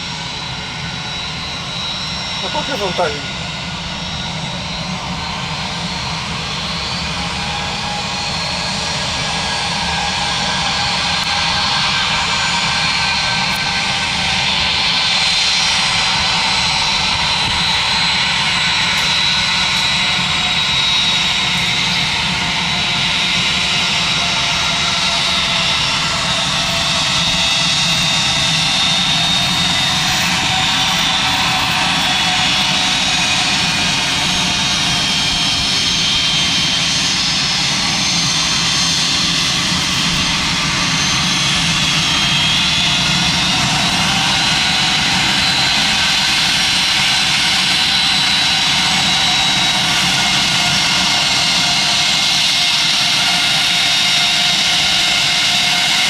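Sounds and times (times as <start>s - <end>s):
jet engines whining at taxi power: 0.0s - 56.0s.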